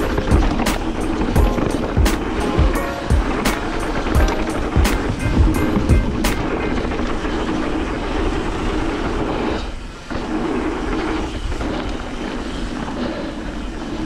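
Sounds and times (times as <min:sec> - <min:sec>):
bike rattling: 0:00.0 - 0:14.0
bike tyres rumbling over dirt: 0:00.0 - 0:14.0.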